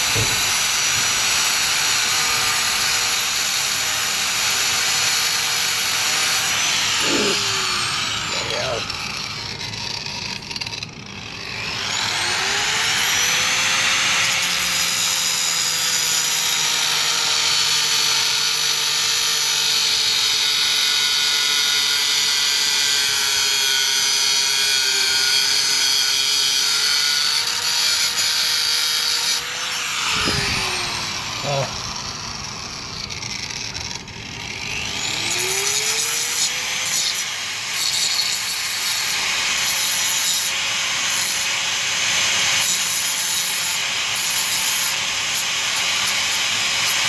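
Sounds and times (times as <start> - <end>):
angle grinder cutting metal: 0.0 - 47.0.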